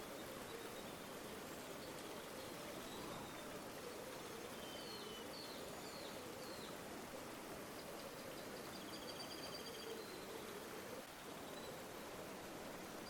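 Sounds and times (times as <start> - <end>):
faint bird chirps: 0.0 - 6.8, 7.8 - 12.1
river flowing: 0.0 - 13.0.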